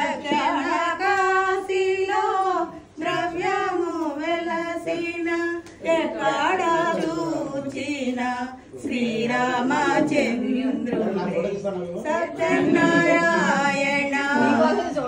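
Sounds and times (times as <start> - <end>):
women singing unaccompanied: 0.0 - 11.2, 12.0 - 15.0.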